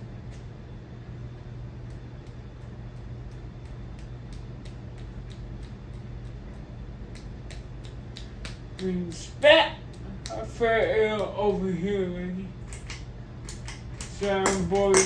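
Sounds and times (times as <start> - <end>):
ceiling fan motor humming: 0.0 - 15.0.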